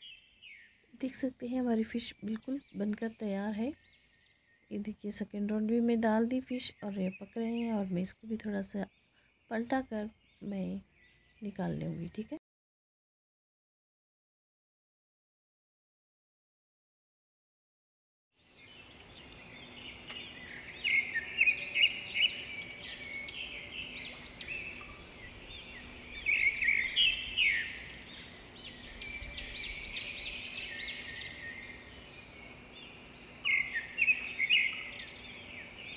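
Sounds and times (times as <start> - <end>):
birds chirping: 0.0 - 12.4, 18.4 - 35.9.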